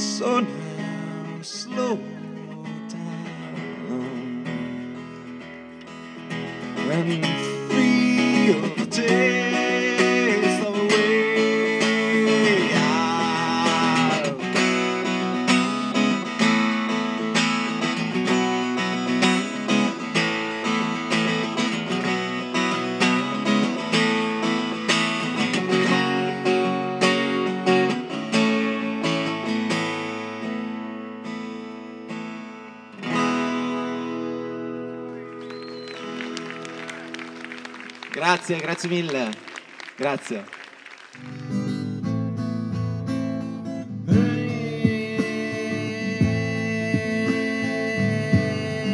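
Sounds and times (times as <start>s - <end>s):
acoustic guitar picked and strummed: 0.0s - 40.4s, 41.1s - 48.9s.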